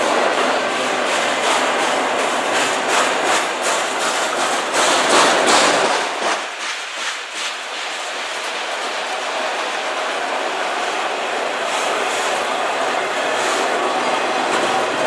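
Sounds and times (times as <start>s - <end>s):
repeated rail clacks: 0.0s - 15.0s
train wheels on rails: 0.0s - 15.0s.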